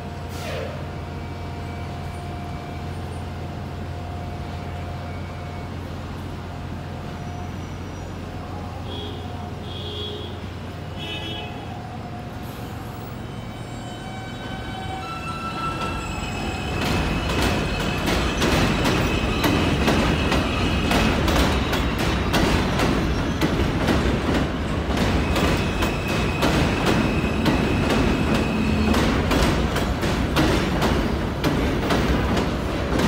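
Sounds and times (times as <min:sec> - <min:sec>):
subway train humming: 0:00.0 - 0:33.0
train cars on the track: 0:00.0 - 0:33.0.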